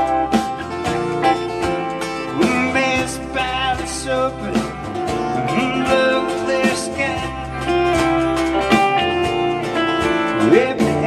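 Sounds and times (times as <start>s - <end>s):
acoustic guitar strumming: 0.0s - 11.0s
drum kit with cymbals: 0.0s - 11.0s.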